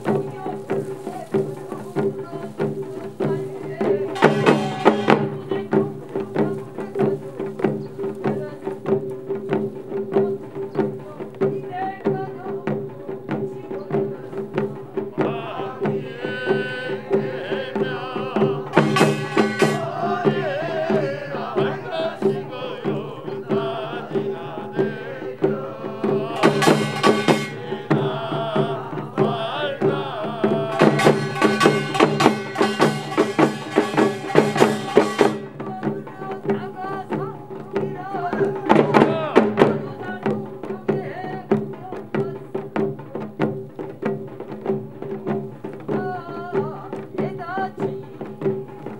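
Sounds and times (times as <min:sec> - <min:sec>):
hand drums and percussion: 0:00.0 - 0:48.9.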